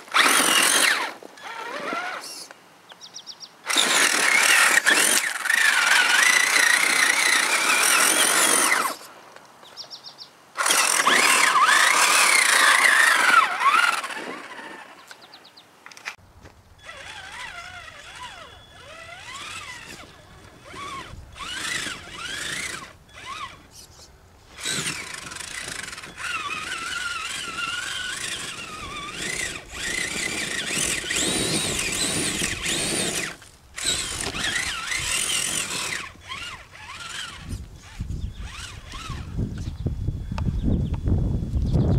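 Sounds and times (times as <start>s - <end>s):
toy truck electric motor whining: 0.0s - 2.5s, 3.7s - 9.1s, 10.6s - 15.2s, 16.8s - 23.8s, 24.5s - 39.8s.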